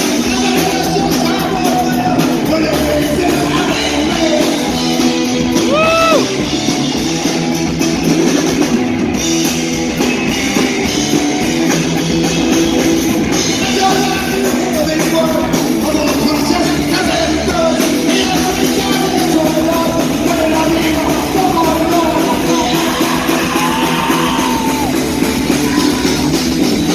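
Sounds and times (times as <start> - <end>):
distorted electric guitar: 0.0 - 26.9
drum kit: 0.0 - 26.9
heavy metal band playing live: 0.0 - 26.9.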